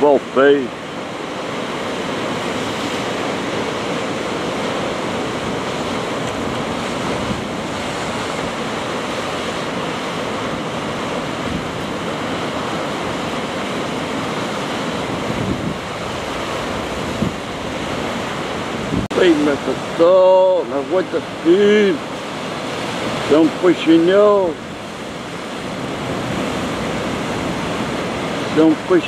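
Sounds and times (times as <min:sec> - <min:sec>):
surf washing over rocks: 0:00.0 - 0:29.0.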